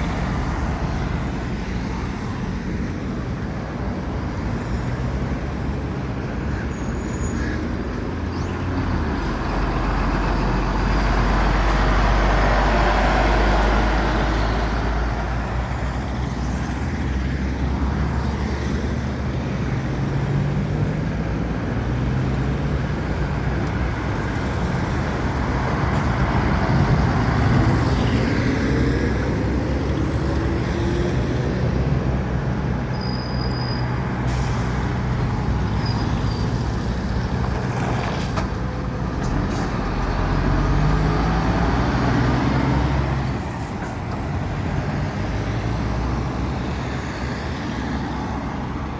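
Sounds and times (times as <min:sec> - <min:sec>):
road noise: 0:00.0 - 0:48.9
truck engines passing: 0:00.0 - 0:48.9.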